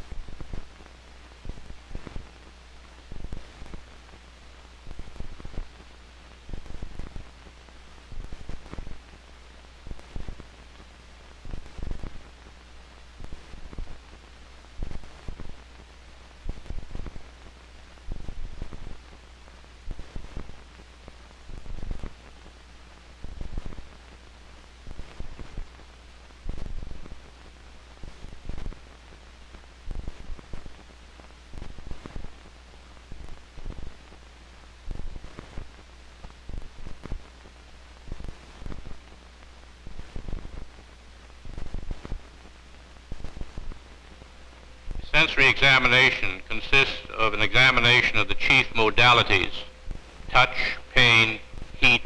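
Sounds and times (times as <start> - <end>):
film soundtrack hum and hiss: 0.0 - 52.0.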